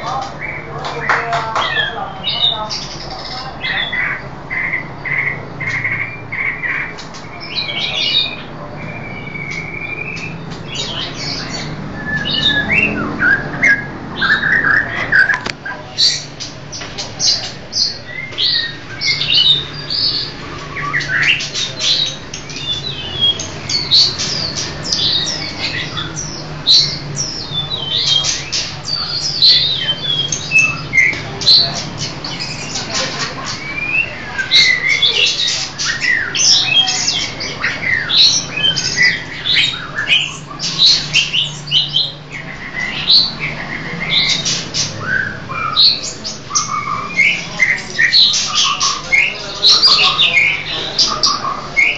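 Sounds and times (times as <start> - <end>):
songbirds singing and chirping: 0.0 - 51.9.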